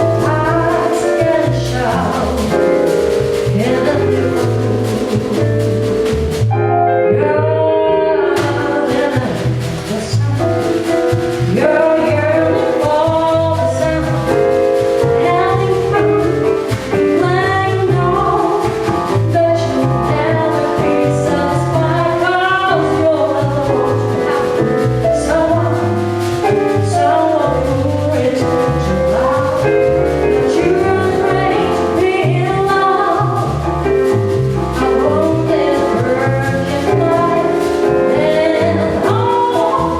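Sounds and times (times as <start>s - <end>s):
woman singing: 0.0s - 5.7s, 7.0s - 25.9s, 26.7s - 34.0s, 34.8s - 39.9s
bass: 0.0s - 39.9s
piano: 0.0s - 39.9s.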